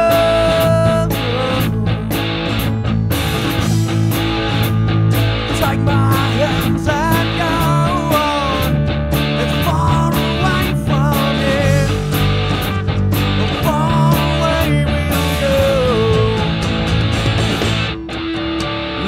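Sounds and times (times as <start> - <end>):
rock music: 0.0 - 19.0.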